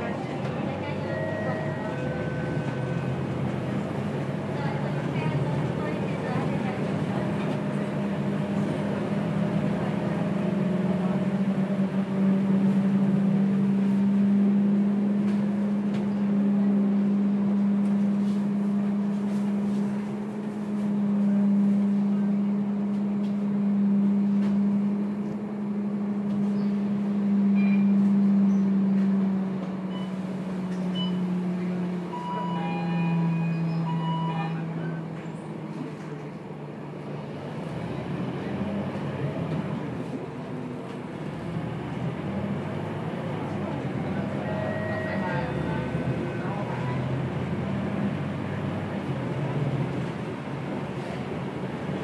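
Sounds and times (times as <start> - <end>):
bus engine drone from inside: 0.0 - 52.0.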